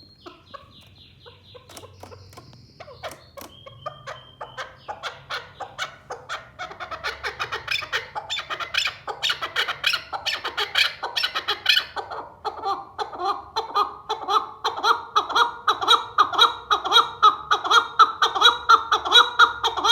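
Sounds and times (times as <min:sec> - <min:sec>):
partridge chuck calls: 0:00.0 - 0:19.9.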